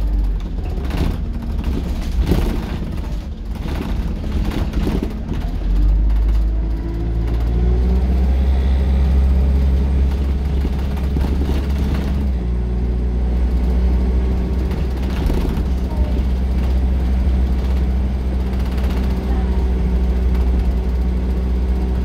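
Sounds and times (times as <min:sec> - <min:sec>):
bus diesel engine droning: 0:00.0 - 0:22.0.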